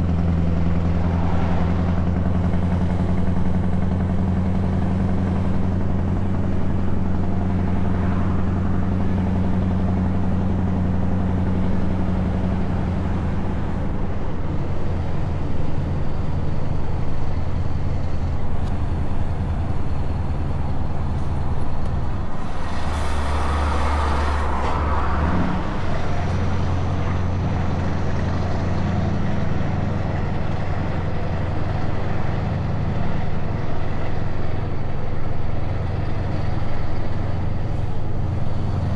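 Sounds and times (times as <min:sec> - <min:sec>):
truck engine through open exhaust: 0:00.0 - 0:38.9.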